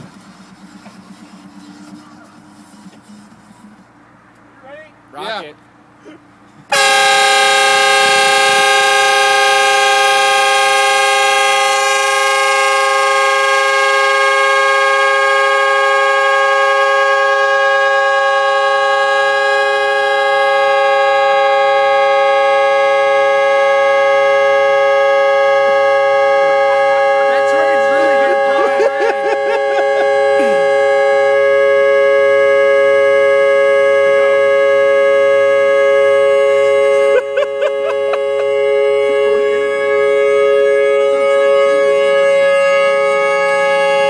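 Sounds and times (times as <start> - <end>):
loud air horn chord: 6.7 - 44.0.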